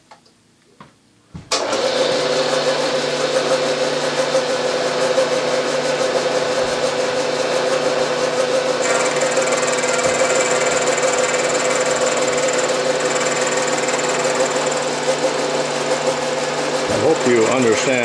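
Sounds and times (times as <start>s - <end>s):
milling machine humming: 1.6s - 18.0s.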